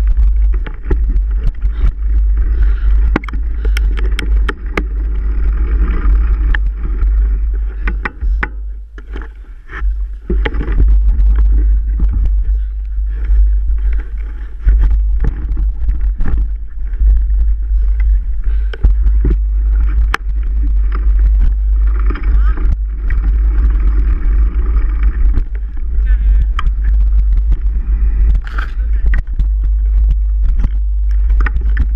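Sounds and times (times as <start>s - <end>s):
bike knocks and rattles: 0.0s - 31.9s
wind rumble on microphone: 0.0s - 31.9s.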